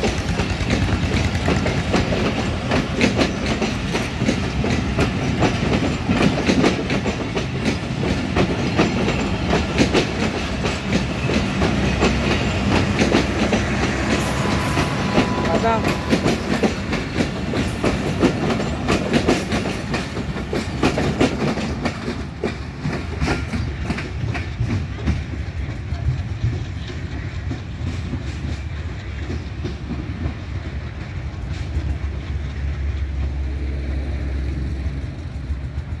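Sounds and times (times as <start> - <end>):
low train rumble: 0.0 - 36.0
train wheels clickety-clack: 0.0 - 36.0.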